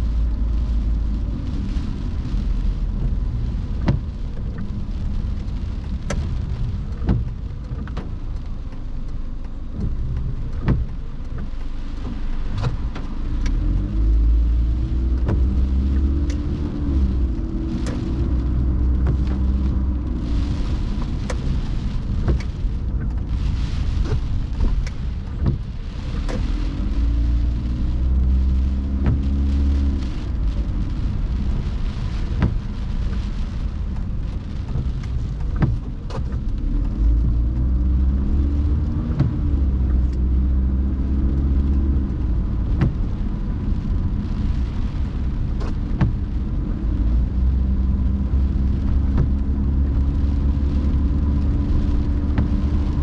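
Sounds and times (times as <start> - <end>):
car engine and road drone: 0.0 - 53.0
raindrops ticking on a car: 0.0 - 53.0.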